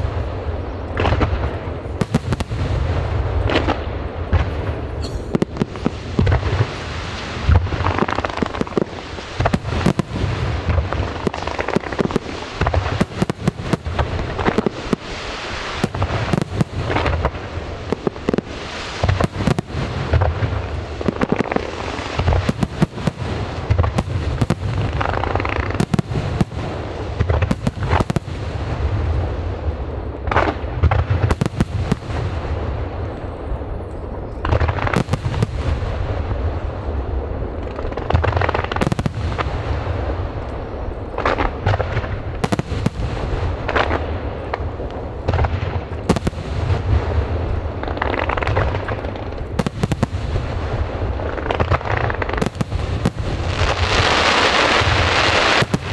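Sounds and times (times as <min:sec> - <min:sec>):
crackling fireworks trails: 0:00.0 - 0:55.9
fireworks bangs and booms: 0:00.0 - 0:55.9.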